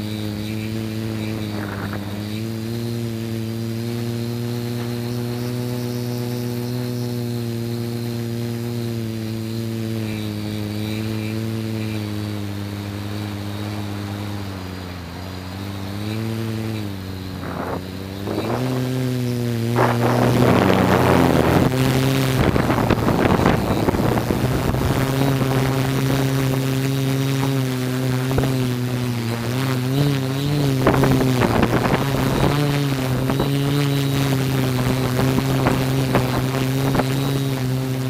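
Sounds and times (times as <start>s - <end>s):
drone propellers whirring: 0.0s - 38.0s.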